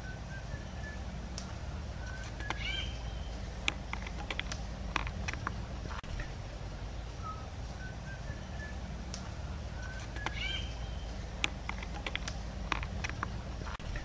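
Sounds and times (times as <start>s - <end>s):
birds calling: 0.0s - 14.0s
low rumble: 0.0s - 14.0s.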